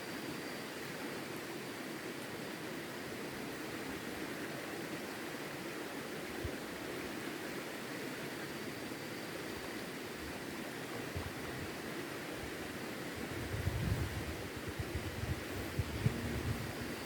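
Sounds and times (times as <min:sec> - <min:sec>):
river water rushing: 0:00.0 - 0:13.5, 0:14.2 - 0:17.0.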